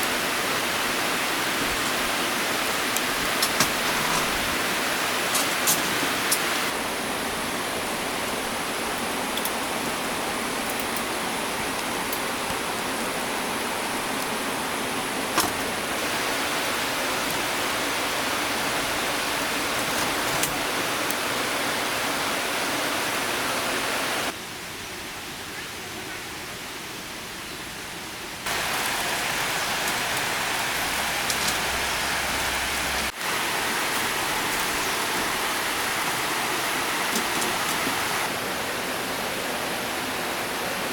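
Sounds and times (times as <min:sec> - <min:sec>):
stream water rushing: 0:00.0 - 0:24.4, 0:28.4 - 0:40.9.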